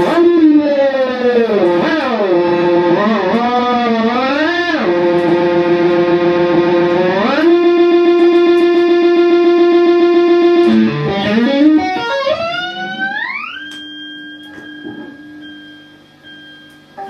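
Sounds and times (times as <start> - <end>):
electric guitar sliding notes: 0.0 - 15.4.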